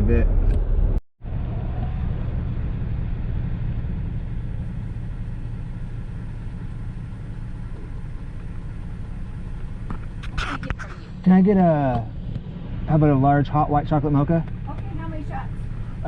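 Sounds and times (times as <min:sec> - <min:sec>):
car cabin low rumble: 0:00.0 - 0:16.0.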